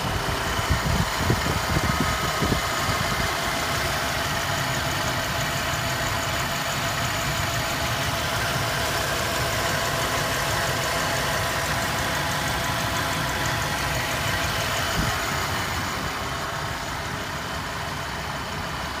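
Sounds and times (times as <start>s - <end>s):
car engine idling: 0.0s - 19.0s
fast light engine ticking: 0.0s - 19.0s.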